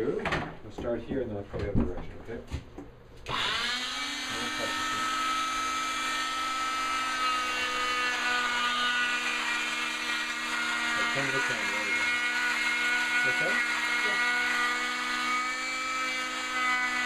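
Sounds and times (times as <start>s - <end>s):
electric saw whining: 3.2s - 17.0s.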